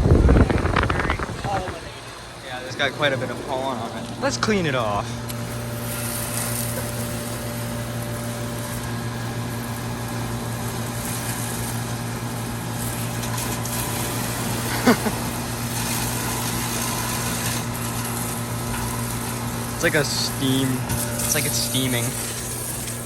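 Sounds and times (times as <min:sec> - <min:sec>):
air conditioner units humming: 0:00.0 - 0:23.0
garden hose spraying water: 0:00.0 - 0:23.0.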